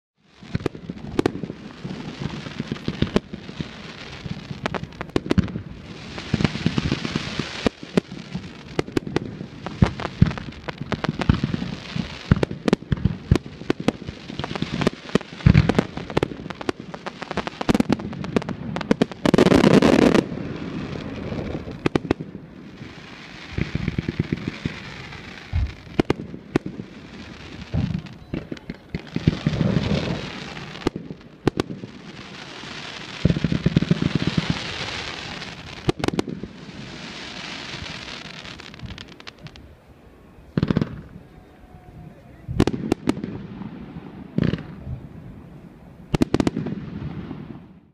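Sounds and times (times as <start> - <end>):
fireworks bangs and crackles: 0.2 - 47.9
fireworks hissing: 0.3 - 39.8.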